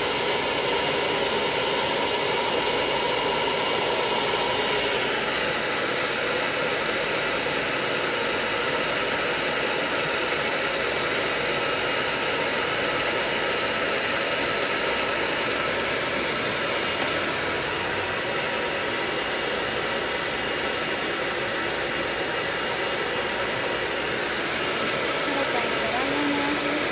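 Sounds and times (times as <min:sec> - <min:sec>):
hair dryer blowing: 0:00.0 - 0:26.9.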